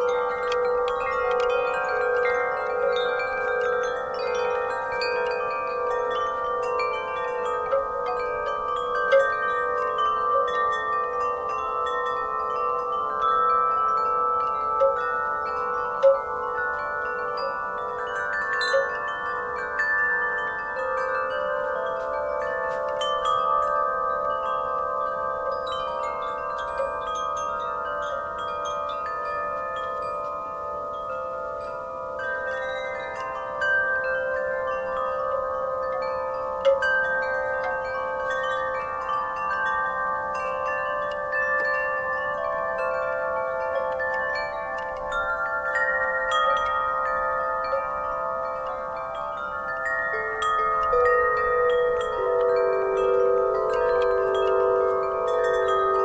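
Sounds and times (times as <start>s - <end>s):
wind chimes ringing: 0.0s - 56.0s.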